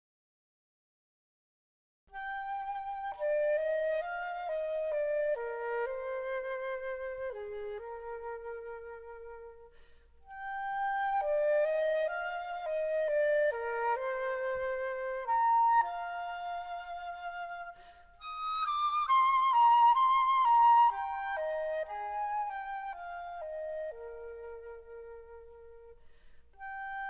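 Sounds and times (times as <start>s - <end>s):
flute melody in held notes: 2.1s - 27.0s.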